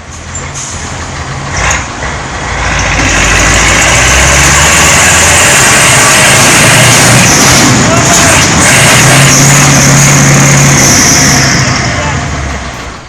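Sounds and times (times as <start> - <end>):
loud rushing noise: 0.0 - 13.0
tractor diesel engine running: 0.0 - 13.0.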